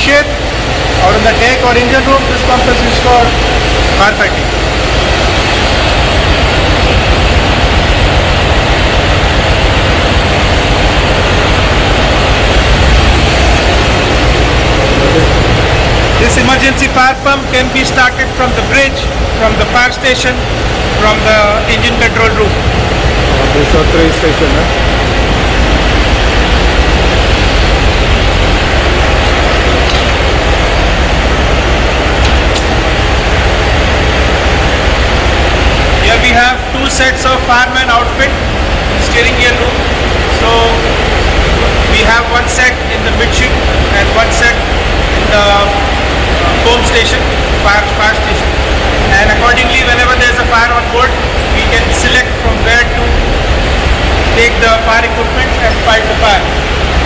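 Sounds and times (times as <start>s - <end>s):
engine-room machinery running: 0.0s - 57.0s.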